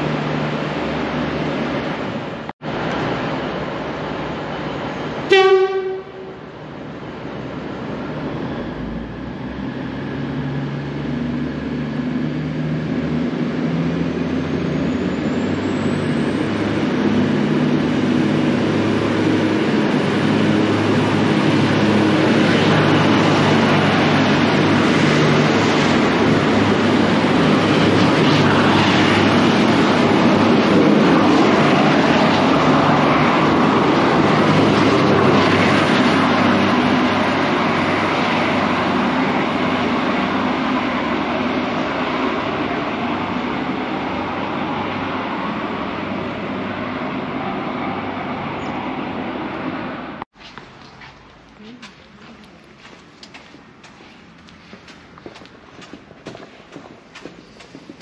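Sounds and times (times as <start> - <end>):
diesel train engine: 0.0 - 58.0
train wheel noise: 0.0 - 58.0.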